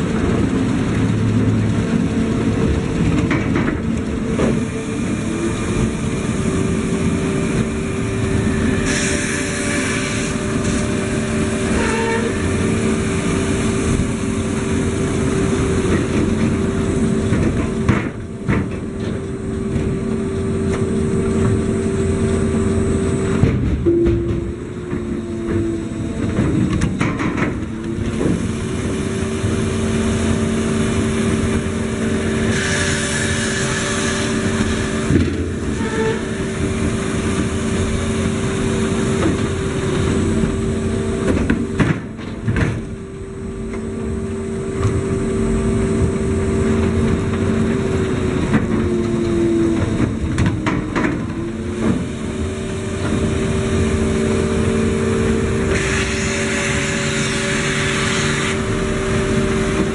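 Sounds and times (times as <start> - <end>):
conveyor machine hum: 0.0 - 59.9.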